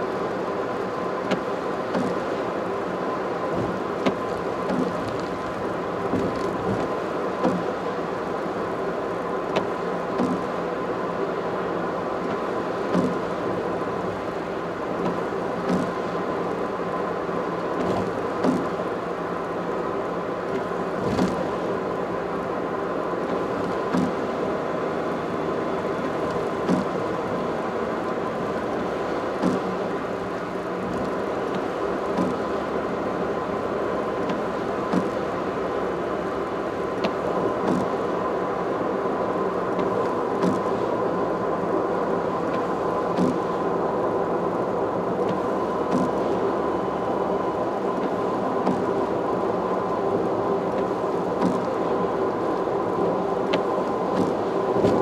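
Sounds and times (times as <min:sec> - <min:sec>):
car road and tyre noise: 0:00.0 - 0:55.0.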